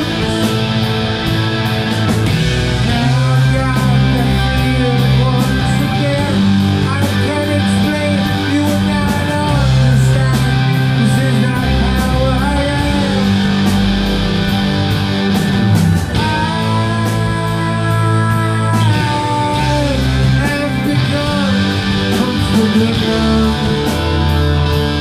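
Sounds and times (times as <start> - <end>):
bending guitar lead line: 0.0 - 25.0
electric guitars: 0.0 - 25.0.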